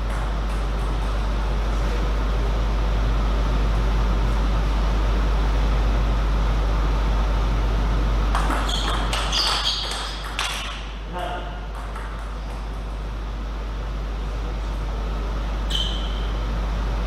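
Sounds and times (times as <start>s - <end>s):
low hum in large hall: 0.0s - 17.0s.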